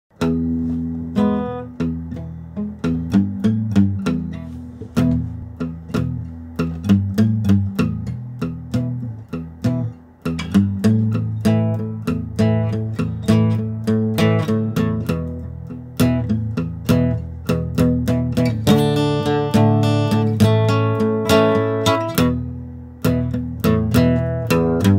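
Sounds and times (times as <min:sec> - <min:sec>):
guitar picking notes and chords: 0:00.1 - 0:24.9.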